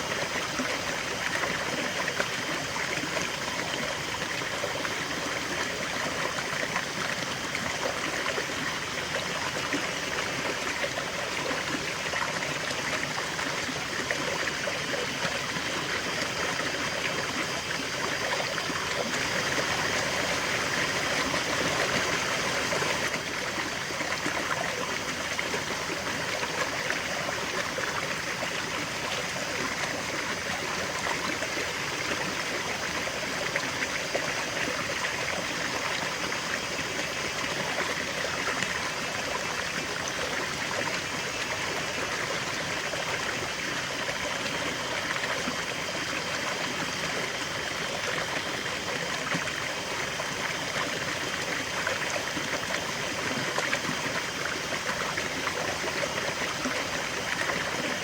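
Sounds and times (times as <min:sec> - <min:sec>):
river water babbling: 0:00.0 - 0:58.0.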